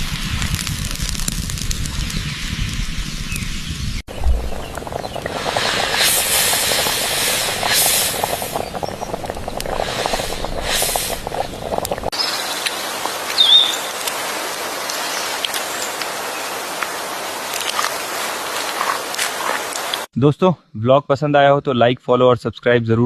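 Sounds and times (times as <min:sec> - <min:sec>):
open fire hissing and crackling: 0:00.0 - 0:20.1.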